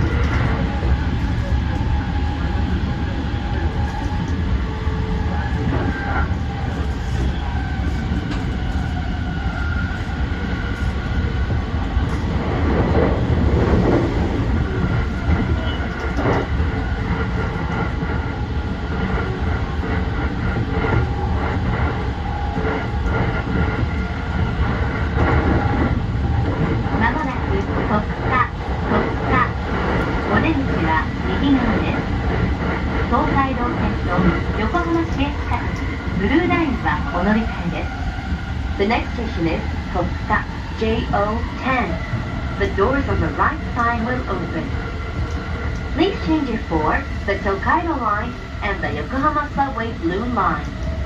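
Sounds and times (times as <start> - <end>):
train wheels rumbling on rails: 0.0 - 51.0
train whining tones: 0.0 - 51.0.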